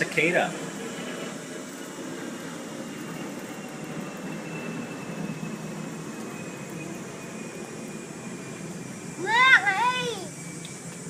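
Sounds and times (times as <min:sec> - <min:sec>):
background hum and hiss: 0:00.0 - 0:11.0
faint high whine: 0:00.0 - 0:11.0.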